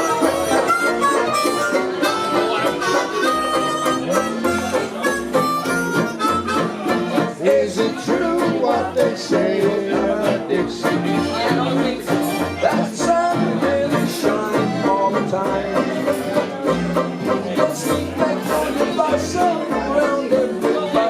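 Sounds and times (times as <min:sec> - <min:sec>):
band playing upbeat instrumental: 0:00.0 - 0:21.0.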